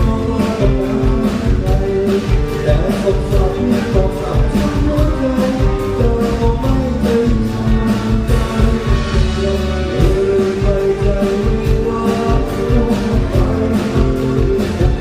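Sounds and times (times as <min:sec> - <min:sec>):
live band playing: 0:00.0 - 0:15.0
steady drum beat: 0:00.0 - 0:15.0.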